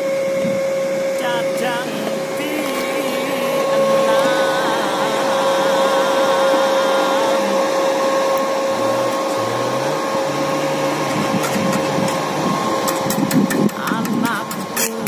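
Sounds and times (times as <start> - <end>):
electrical whine: 0.0 - 15.0
fan rushing: 0.0 - 15.0
welding machine idling: 1.2 - 15.0.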